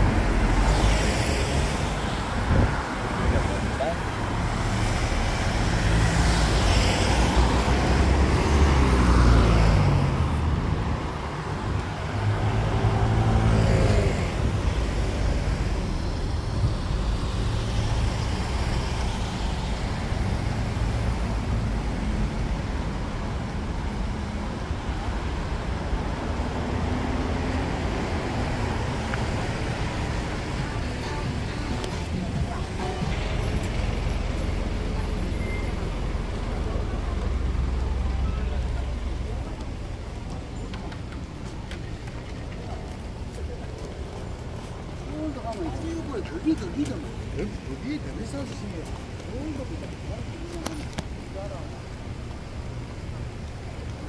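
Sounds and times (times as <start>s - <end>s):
car engines passing close: 0.0s - 54.0s
road traffic rumble: 0.0s - 54.0s.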